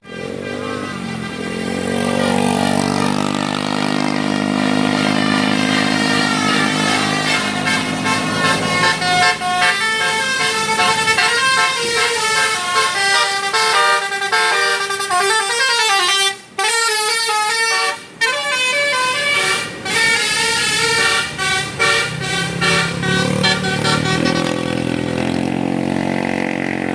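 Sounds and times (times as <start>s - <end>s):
bus engine running low: 0.0s - 26.9s
bus musical horn melody: 0.0s - 26.9s.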